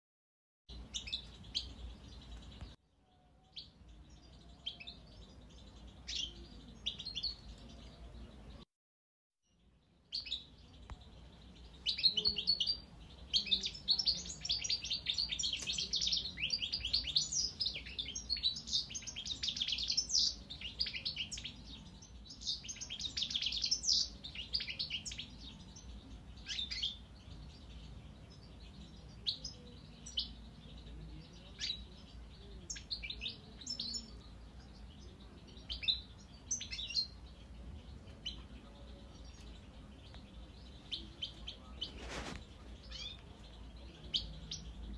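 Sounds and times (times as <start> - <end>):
goldfinch twittering song: 0.7 - 2.8, 3.4 - 8.6, 9.6 - 44.9.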